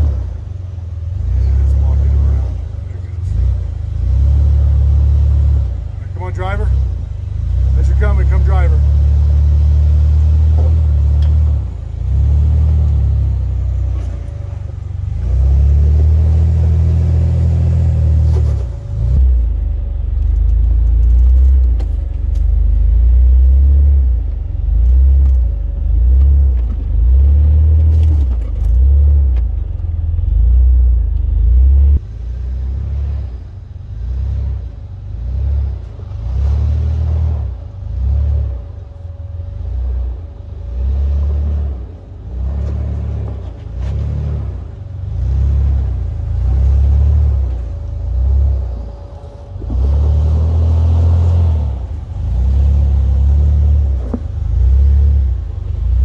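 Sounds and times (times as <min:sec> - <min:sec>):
truck engines running slowly: 0:00.0 - 0:56.0.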